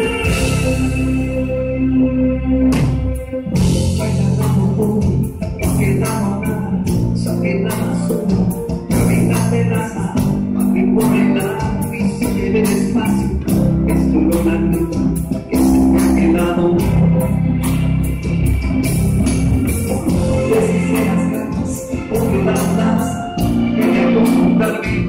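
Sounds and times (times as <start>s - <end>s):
drums with cymbal beat: 0.0s - 1.5s, 2.7s - 25.0s
man singing: 0.0s - 1.9s, 3.4s - 17.8s, 19.6s - 25.0s
bass: 0.0s - 25.0s
electric guitar: 0.0s - 25.0s
keyboards: 0.0s - 25.0s.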